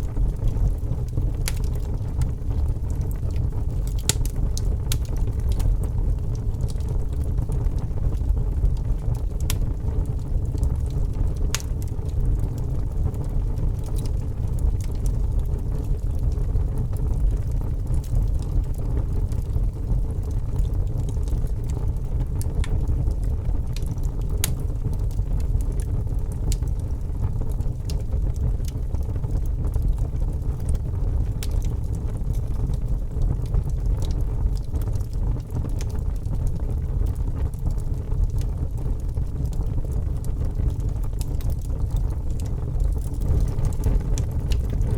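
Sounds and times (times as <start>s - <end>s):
fire crackling and popping: 0.0s - 44.9s
low rumble of fire: 0.0s - 44.9s.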